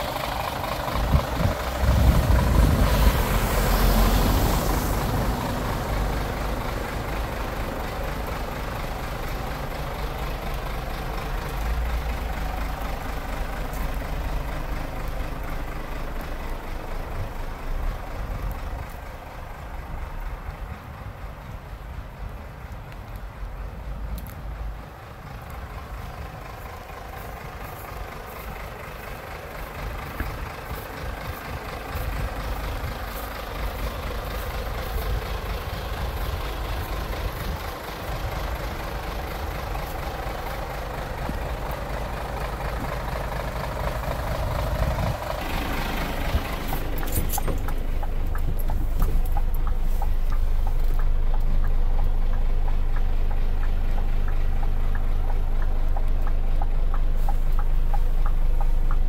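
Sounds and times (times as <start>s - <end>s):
diesel truck idling: 0.0s - 59.0s.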